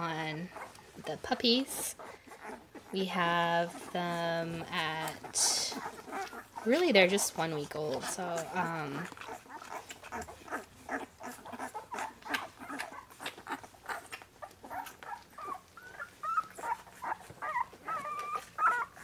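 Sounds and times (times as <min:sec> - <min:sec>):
puppies squeaking and whimpering: 0:00.0 - 0:19.0
puppies suckling with wet smacking: 0:00.0 - 0:19.0.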